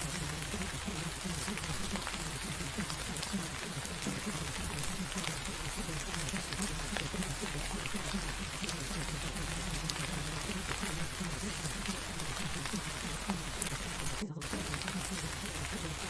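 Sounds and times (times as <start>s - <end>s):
muffled murmur of voices: 0.0s - 16.0s
raindrop ticks: 0.0s - 16.0s
steady rain: 0.0s - 16.0s.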